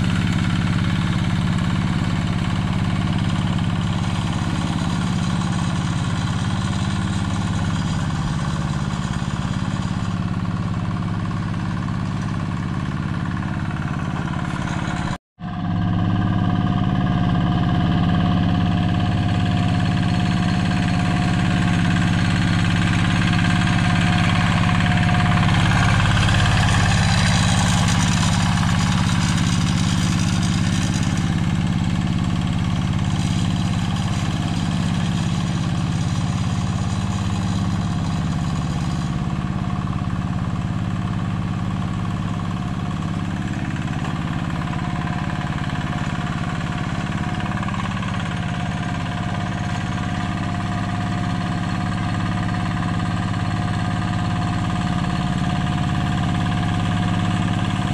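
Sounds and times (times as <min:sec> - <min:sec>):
hand tractor diesel engine: 0:00.0 - 0:57.9.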